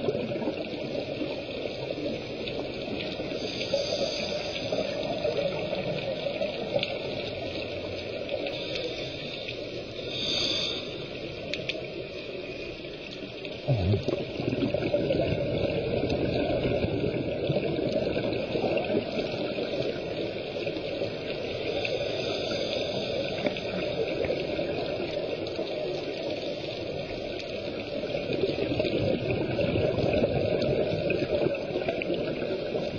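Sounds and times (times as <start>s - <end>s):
muffled underwater water rush: 0.0s - 32.9s.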